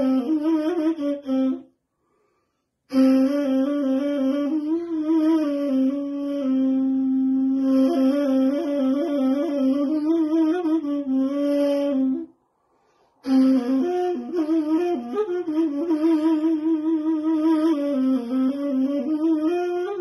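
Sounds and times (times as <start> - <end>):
reed flute melody: 0.0 - 1.8, 2.9 - 20.0.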